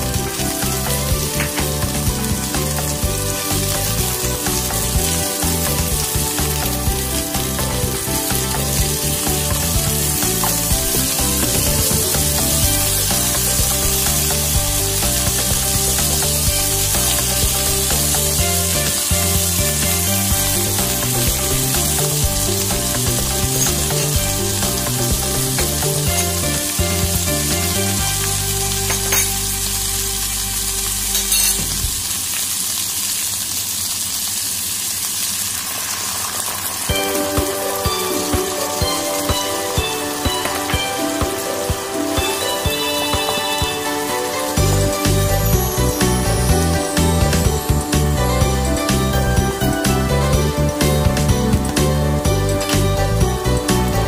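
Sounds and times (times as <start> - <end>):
background music: 0.0 - 32.0, 36.7 - 54.0
vegetables sizzling in a wok: 0.0 - 54.0.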